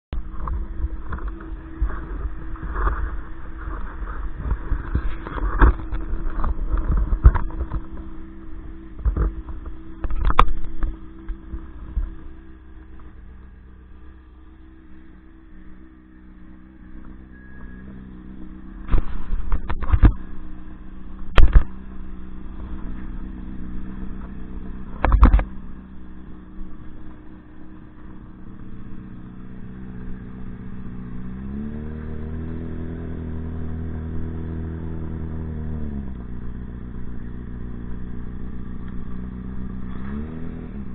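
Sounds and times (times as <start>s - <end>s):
motorcycle engine running: 0.1s - 40.9s.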